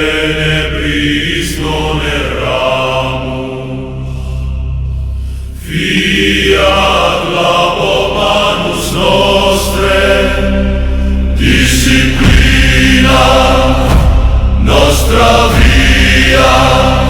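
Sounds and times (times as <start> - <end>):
choir chanting: 0.0 - 17.0
low drone: 0.0 - 17.0.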